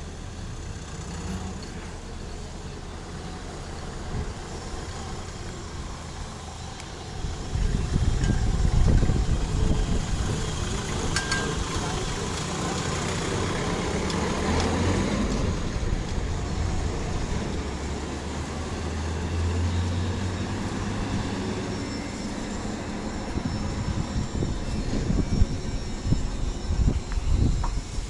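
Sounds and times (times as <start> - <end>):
train running past: 0.0 - 28.0.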